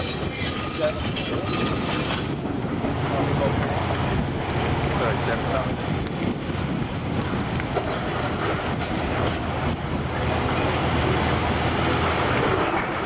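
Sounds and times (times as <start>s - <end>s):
heavy diesel engine running: 1.8s - 13.0s.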